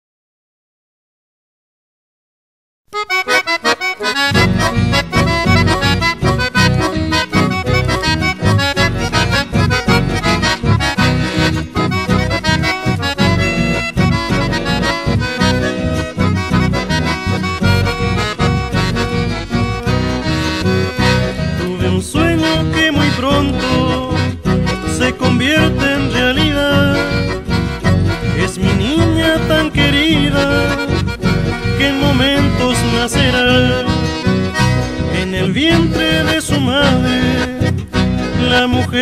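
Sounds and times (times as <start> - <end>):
accordion: 2.9 - 39.0
steady bass beat: 4.2 - 38.6.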